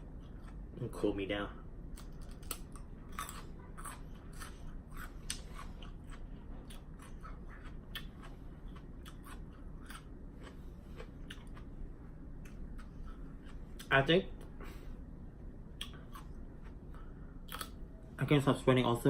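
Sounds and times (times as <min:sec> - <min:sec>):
chewing crisp cucumber: 0:00.0 - 0:01.0, 0:01.9 - 0:14.5, 0:15.7 - 0:17.8.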